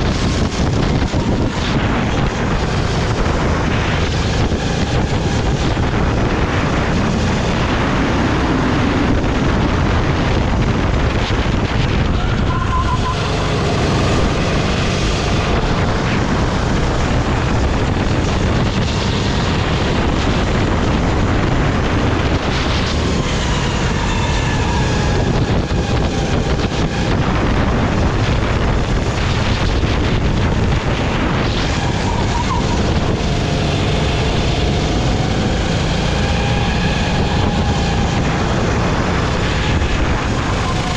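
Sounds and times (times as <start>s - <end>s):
kart engine revving: 0.0s - 40.9s
wind rush on microphone: 0.0s - 40.9s.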